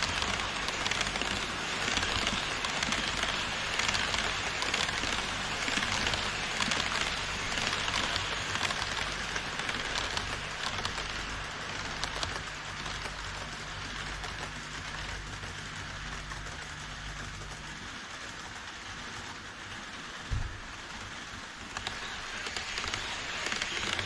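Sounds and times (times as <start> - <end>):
model train wheels rattling on rails: 0.0 - 24.0.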